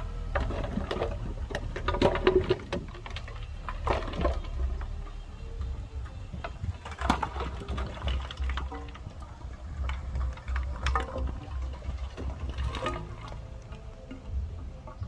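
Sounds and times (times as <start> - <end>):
heavy diesel machinery rumbling: 0.0 - 15.0
metal clanks and knocks: 0.0 - 15.0.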